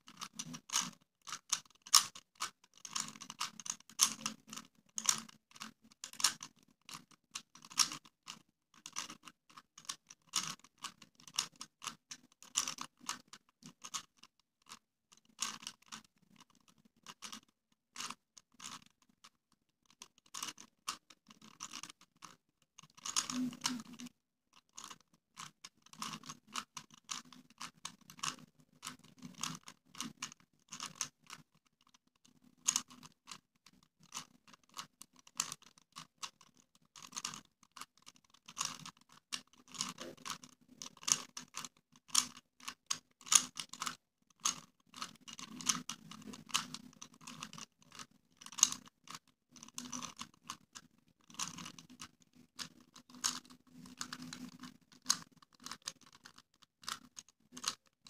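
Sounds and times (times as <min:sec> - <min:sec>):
puzzle cube plastic clicks: 0:00.0 - 0:58.0.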